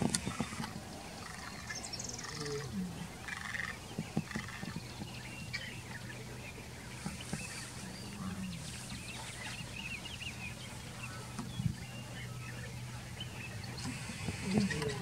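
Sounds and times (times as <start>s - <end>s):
birds calling and chattering: 0.0s - 15.0s
faint low hum: 0.0s - 15.0s.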